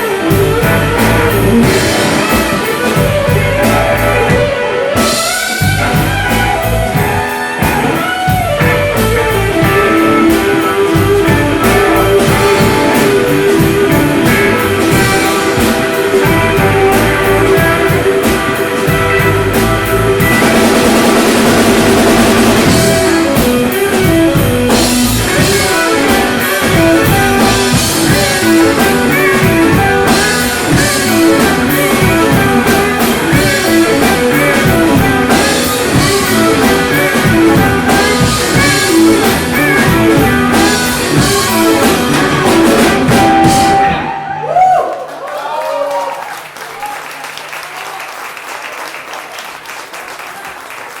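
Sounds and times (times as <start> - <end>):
drum kit: 0.0 - 44.8
electric guitar: 0.0 - 44.8.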